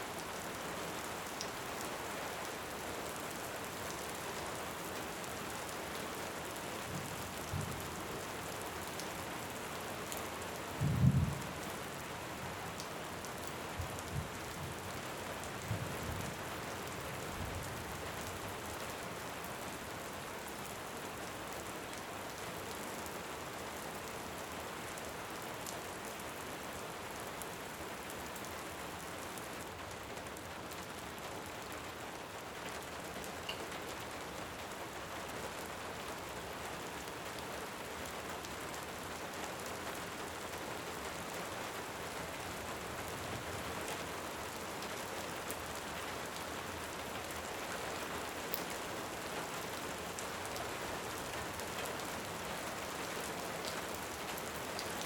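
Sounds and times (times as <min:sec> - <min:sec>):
heavy rain: 0:00.1 - 0:55.0.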